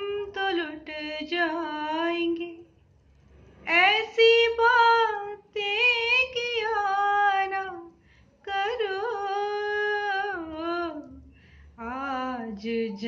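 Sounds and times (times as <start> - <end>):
woman singing unaccompanied: 0.0 - 2.7, 3.6 - 13.0.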